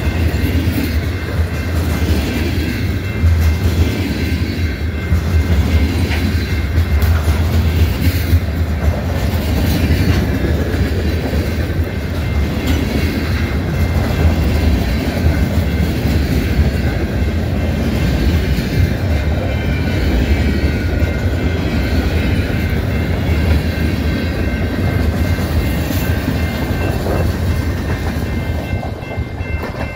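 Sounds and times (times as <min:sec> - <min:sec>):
freight train wheels rumbling on rails: 0:00.0 - 0:29.9.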